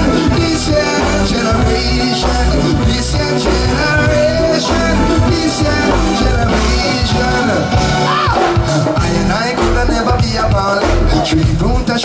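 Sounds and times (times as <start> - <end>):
live reggae band playing: 0.0 - 12.0
person singing and calling out: 0.0 - 12.0.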